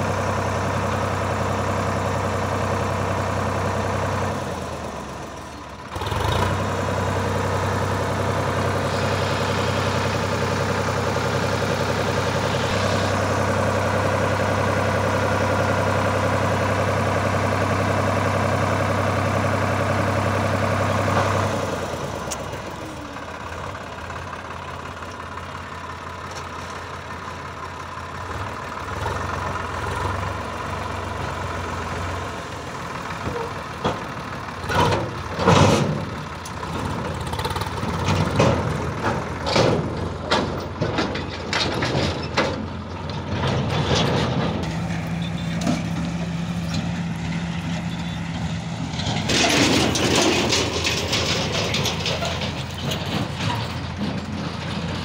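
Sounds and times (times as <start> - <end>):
tractor engine revving: 0.0 - 55.0.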